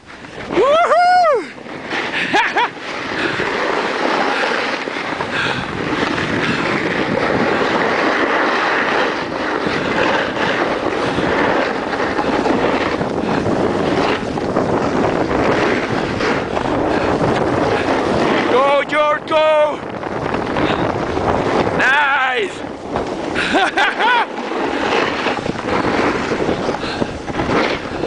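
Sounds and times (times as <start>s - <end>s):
skis scraping over snow: 0.0s - 28.0s
wind on microphone: 0.0s - 28.0s.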